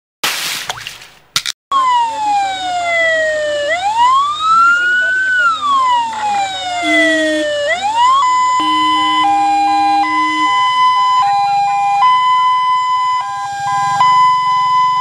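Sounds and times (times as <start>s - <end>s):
ambulance siren wailing: 1.7s - 15.0s
two-tone hi-lo siren: 1.7s - 15.0s.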